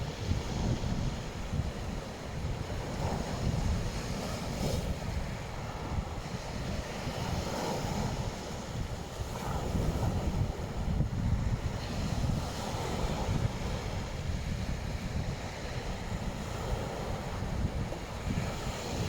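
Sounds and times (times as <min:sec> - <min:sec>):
waves washing onto beach: 0:00.0 - 0:19.0
wind buffeting microphone: 0:00.0 - 0:19.0.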